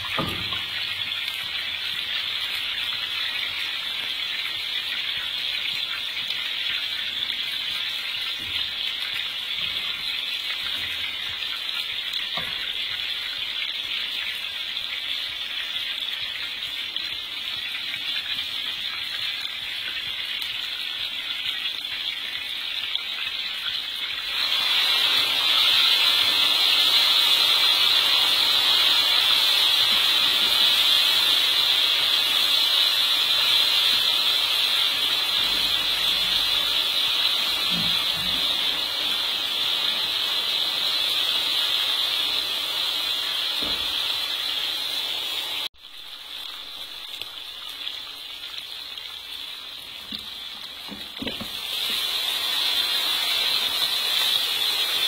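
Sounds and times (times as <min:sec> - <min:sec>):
meat sizzling in a wok: 0:00.0 - 0:55.0.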